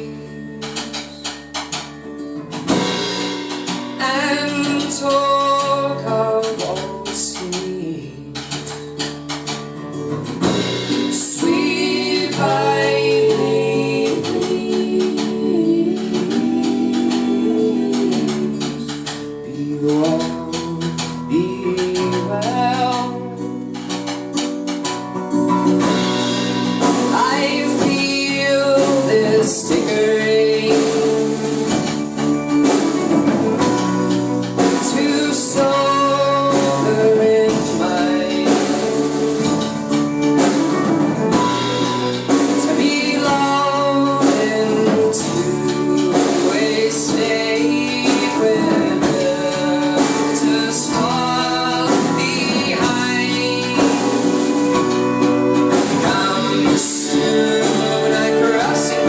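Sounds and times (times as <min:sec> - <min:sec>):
person singing: 0:00.0 - 0:09.6, 0:10.4 - 0:59.0
strummed acoustic guitar: 0:00.0 - 0:59.0.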